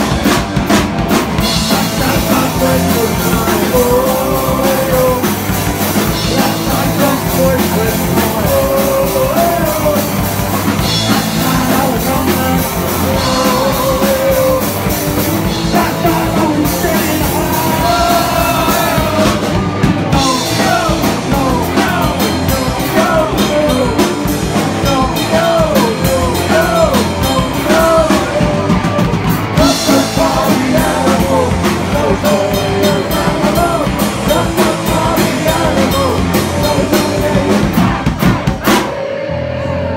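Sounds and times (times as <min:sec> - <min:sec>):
drum kit: 0:00.0 - 0:39.4
bass guitar: 0:00.0 - 0:39.9
electric guitars: 0:00.0 - 0:39.9
person singing: 0:01.4 - 0:39.9.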